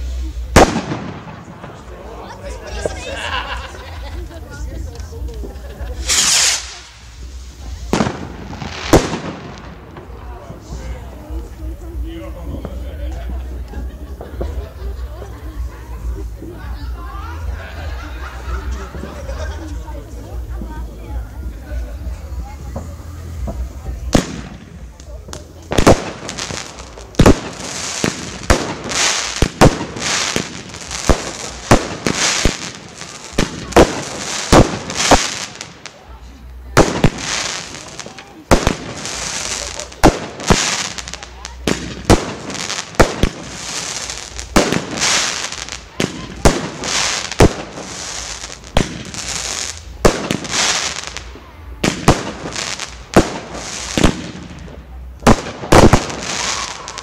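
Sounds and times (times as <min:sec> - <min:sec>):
fireworks bursting bangs: 0:00.0 - 0:57.0
hissing crackle of fireworks: 0:00.0 - 0:57.0.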